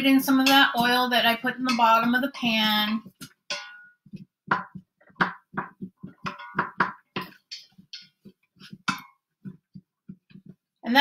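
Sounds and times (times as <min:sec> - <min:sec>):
utensil clacking against pot: 0:00.0 - 0:10.8.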